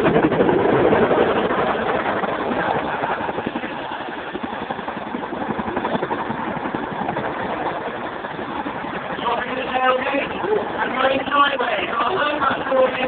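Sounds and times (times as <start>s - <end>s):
helicopter rotor and turbine roar: 0.0s - 13.0s.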